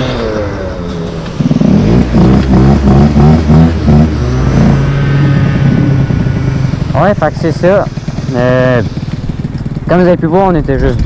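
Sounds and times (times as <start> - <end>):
scooter engine idling and revving: 0.0 - 11.0.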